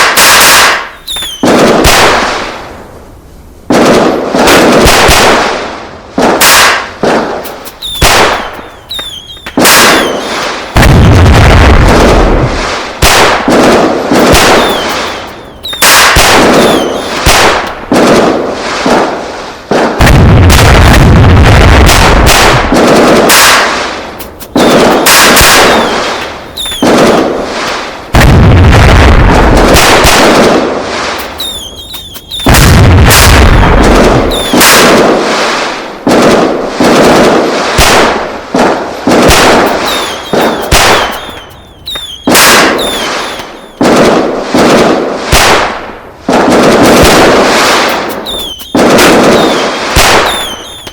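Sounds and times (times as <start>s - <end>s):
loud explosive bangs: 0.0s - 2.8s, 3.7s - 50.9s.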